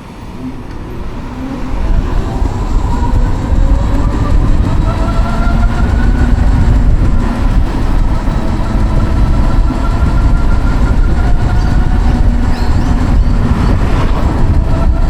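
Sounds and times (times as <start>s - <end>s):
wind and road rumble: 0.0s - 15.0s
electric motor whine: 0.4s - 15.0s.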